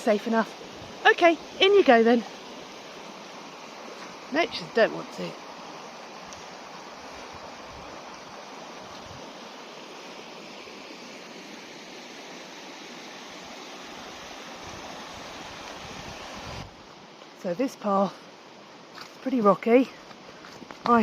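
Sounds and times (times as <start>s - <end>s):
river water rushing over rocks: 0.0s - 17.4s.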